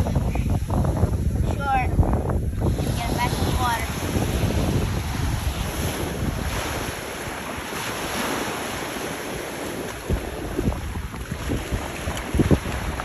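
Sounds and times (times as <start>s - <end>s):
ocean surf on sand beach: 0.0s - 13.0s
wind rumbling on microphone: 0.0s - 13.0s.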